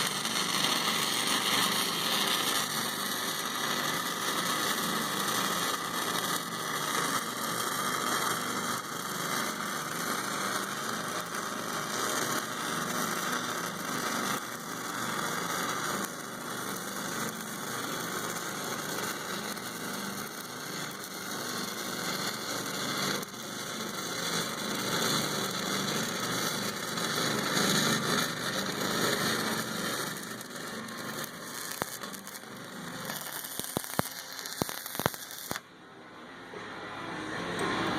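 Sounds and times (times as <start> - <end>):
welding arc crackling hiss: 0.0 - 35.6.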